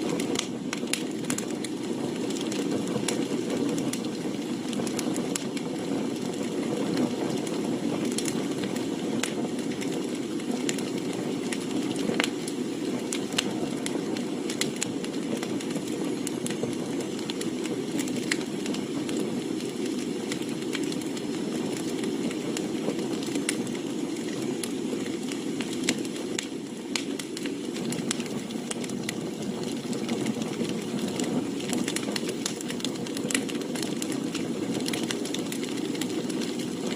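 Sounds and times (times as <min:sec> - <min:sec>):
campfire burning: 0:00.0 - 0:36.9
firewood popping and crackling: 0:00.0 - 0:36.9.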